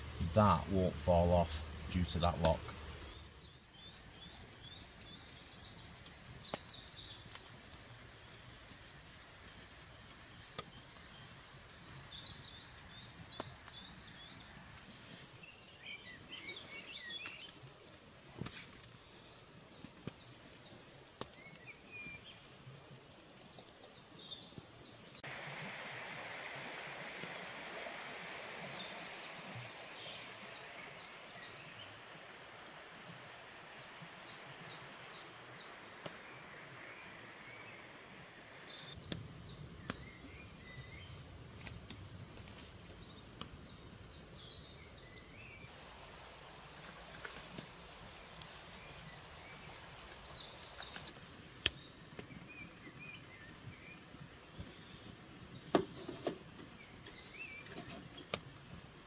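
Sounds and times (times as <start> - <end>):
steady rushing hiss: 0.0 - 39.7, 41.2 - 59.0
woodland birds chirping: 0.0 - 59.0.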